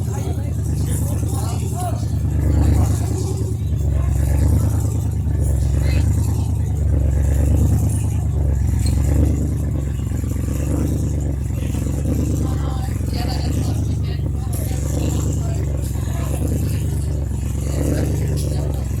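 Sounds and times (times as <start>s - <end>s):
car engine deep rumble: 0.0s - 19.0s.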